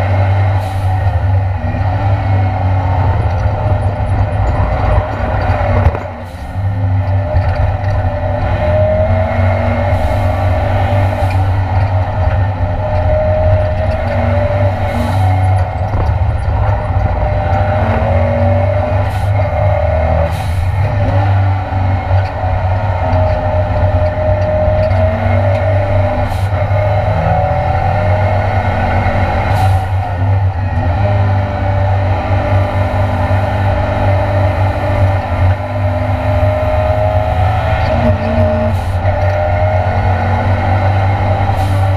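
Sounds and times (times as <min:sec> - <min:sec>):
race car engine running hard: 0:00.0 - 0:41.9.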